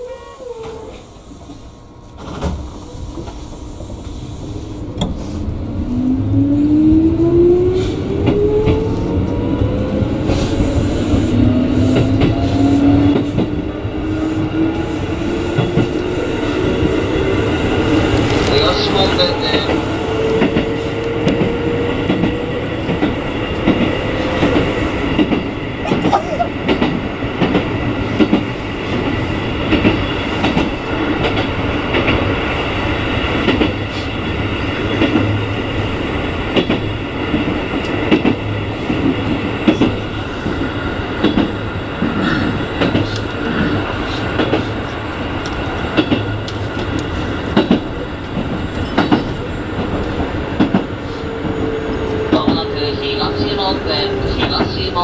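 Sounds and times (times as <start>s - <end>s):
train rolling on track: 0.0s - 55.0s.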